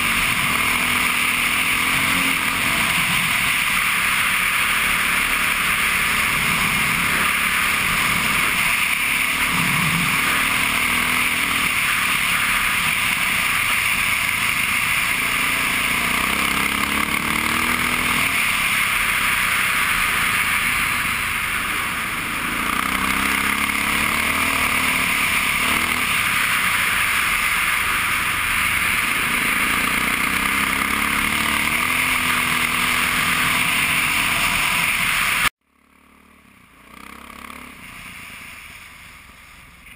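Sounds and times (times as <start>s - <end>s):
steady rushing noise: 0.0s - 35.5s
dirt bike engine accelerating: 0.0s - 38.5s.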